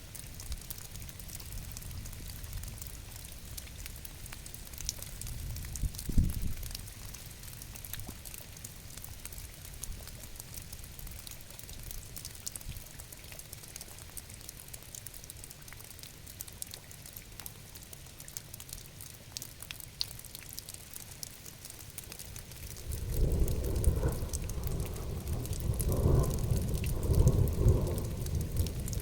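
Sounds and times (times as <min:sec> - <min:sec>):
raindrops ticking: 0:00.0 - 0:29.0
steady rain: 0:00.0 - 0:29.0.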